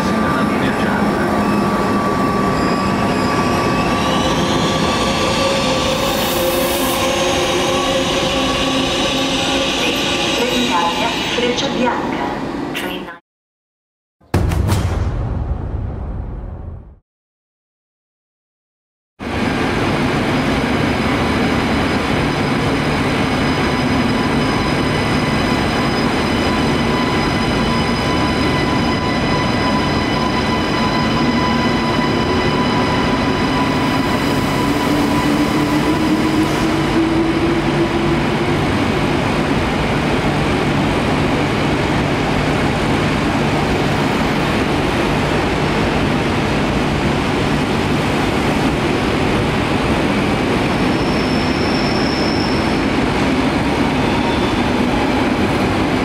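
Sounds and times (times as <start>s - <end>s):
high-speed train accelerating: 0.0s - 13.1s, 19.2s - 56.0s.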